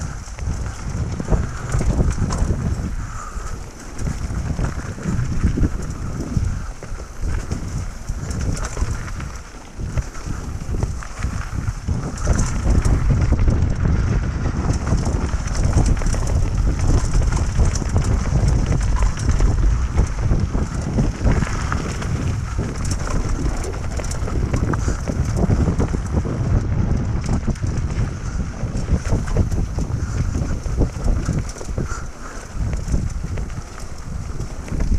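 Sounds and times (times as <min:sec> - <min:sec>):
bike clicking and rattling: 0:00.0 - 0:34.9
wind rumbling on microphone: 0:00.0 - 0:34.9.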